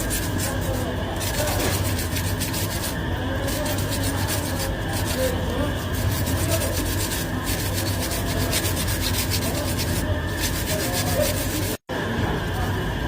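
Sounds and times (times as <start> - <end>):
hand rubbing aluminium foil: 0.0 - 11.9.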